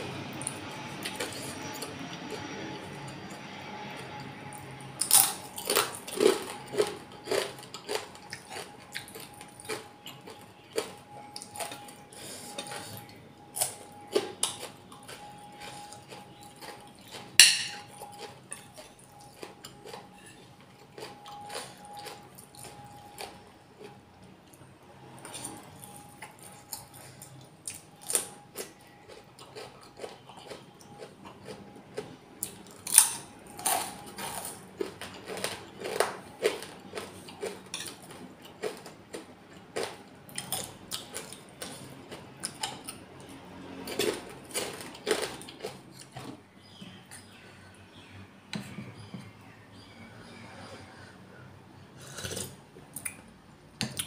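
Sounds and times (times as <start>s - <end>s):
chewing and crunching food: 0.0s - 51.2s.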